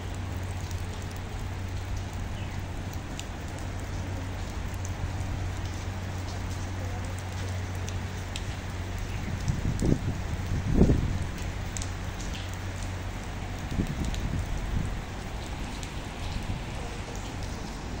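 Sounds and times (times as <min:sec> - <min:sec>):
heavy rain on pavement: 0:00.0 - 0:18.0
wind buffeting microphone: 0:00.0 - 0:18.0.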